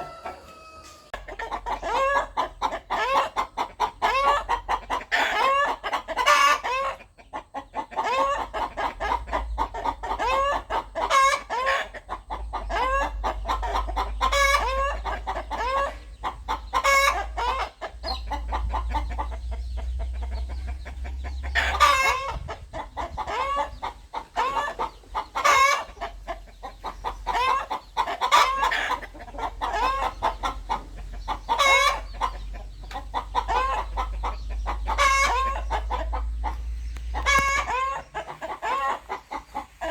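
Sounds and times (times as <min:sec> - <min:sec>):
rooster clucking: 0:00.0 - 0:39.9.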